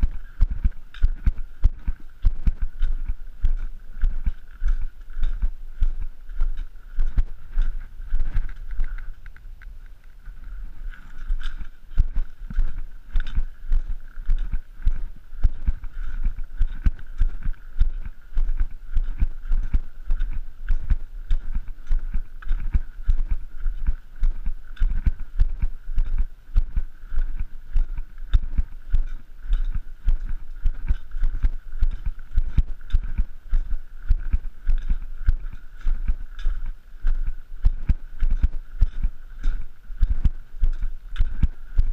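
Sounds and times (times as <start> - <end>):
footsteps on gravel: 0.0 - 41.9.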